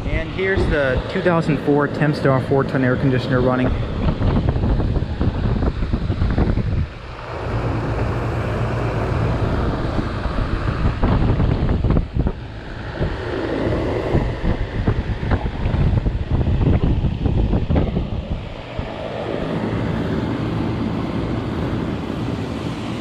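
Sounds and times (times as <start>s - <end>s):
air buffeting microphone: 0.0s - 23.0s
compressor hum: 0.0s - 23.0s
fan rushing: 0.0s - 23.0s.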